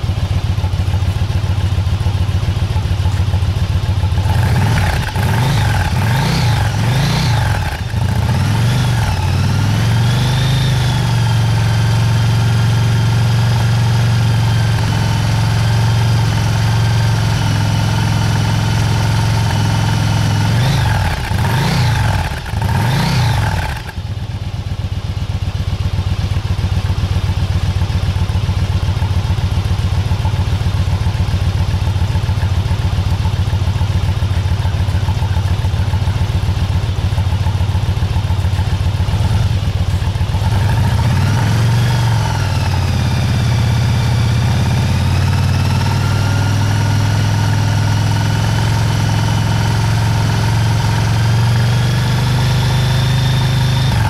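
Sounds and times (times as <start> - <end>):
motorcycle engine idling: 0.0 - 54.0
motorcycle engine revving: 0.0 - 54.0.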